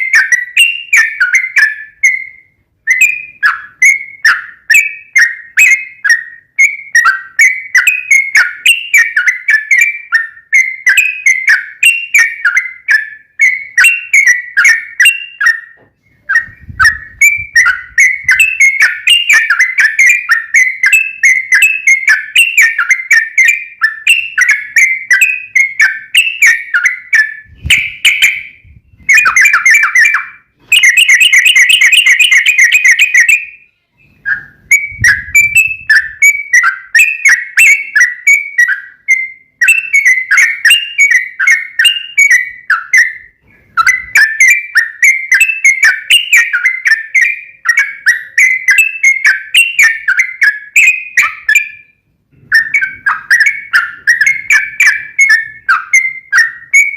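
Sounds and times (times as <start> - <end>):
bird chattering chirps: 0.0 - 56.9.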